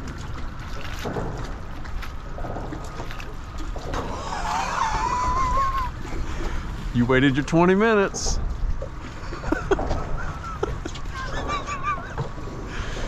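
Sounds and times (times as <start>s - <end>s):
boat knocking: 0.0s - 13.0s
water lapping against boat: 0.0s - 13.0s.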